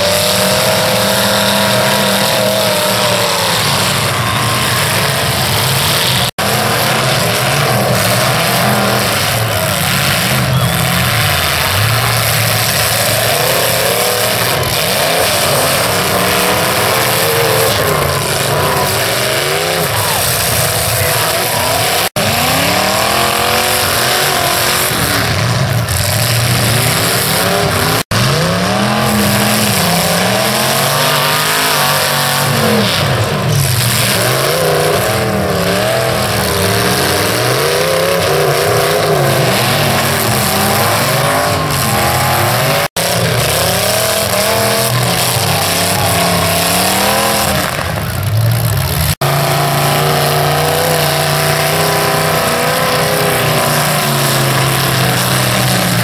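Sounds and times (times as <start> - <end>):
car engines revving hard: 0.0 - 56.0
tires spinning in dirt: 0.0 - 56.0.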